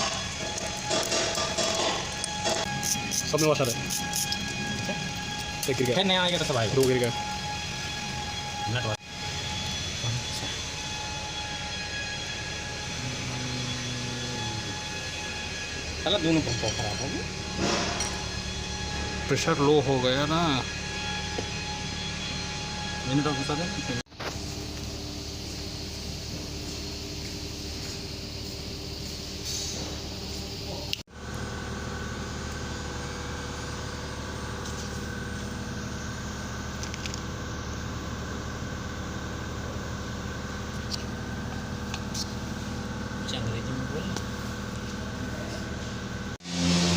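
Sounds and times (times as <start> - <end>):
mechanical drone with whining tones: 0.0 - 46.9.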